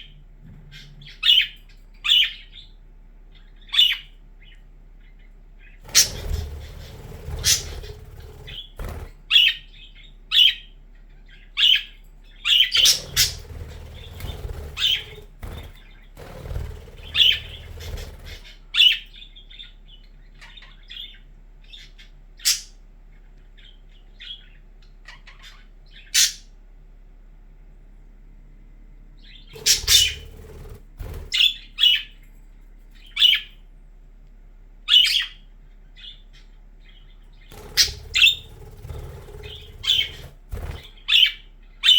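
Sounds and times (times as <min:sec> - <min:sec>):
faint low rumble: 0:00.0 - 0:41.9
budgerigars chirping: 0:00.7 - 0:02.7, 0:03.3 - 0:16.3, 0:16.9 - 0:22.8, 0:23.6 - 0:26.5, 0:29.2 - 0:32.2, 0:34.9 - 0:41.9.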